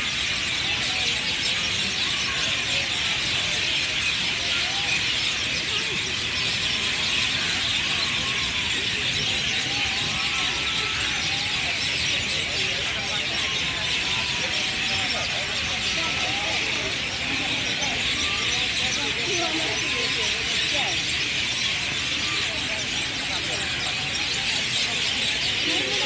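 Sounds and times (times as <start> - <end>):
flock of small birds chirping: 0.0 - 26.0.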